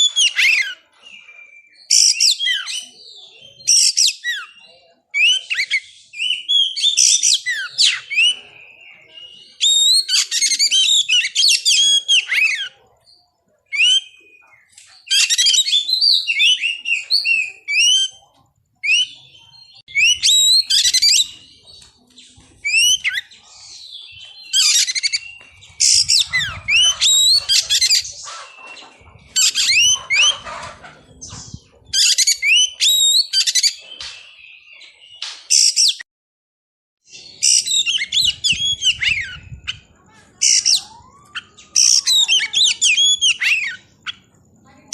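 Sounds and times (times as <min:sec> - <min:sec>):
bird singing whistles and chatter: 0:00.0 - 0:36.0, 0:37.1 - 0:44.9.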